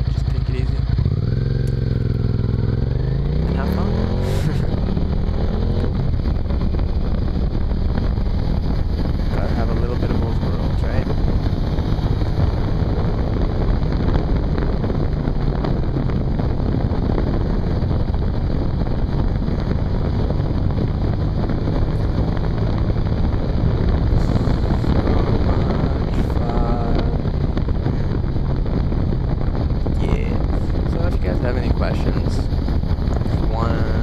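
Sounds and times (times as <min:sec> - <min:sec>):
motorcycle engine droning: 0:00.0 - 0:34.0
wind rushing over microphone: 0:00.0 - 0:34.0.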